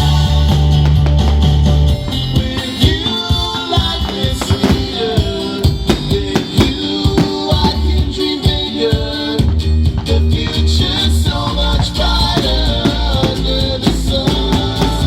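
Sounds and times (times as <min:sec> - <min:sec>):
band with guitar and drums: 0:00.0 - 0:15.0
heavy bass line: 0:00.0 - 0:15.0.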